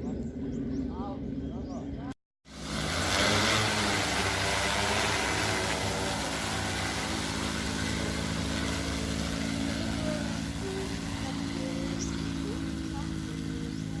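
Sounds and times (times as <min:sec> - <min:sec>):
drone rotors whirring: 0:02.5 - 0:14.0.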